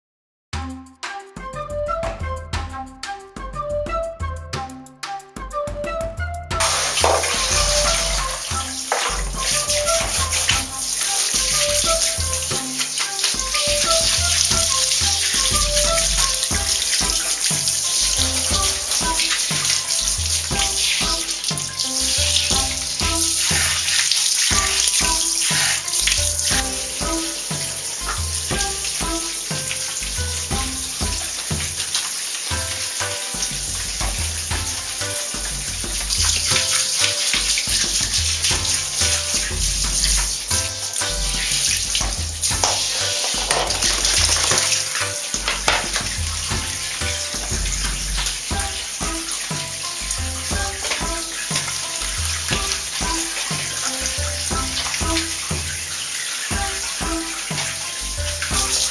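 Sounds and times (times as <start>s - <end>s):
background music: 0.6s - 58.9s
shower water spraying: 6.6s - 58.9s.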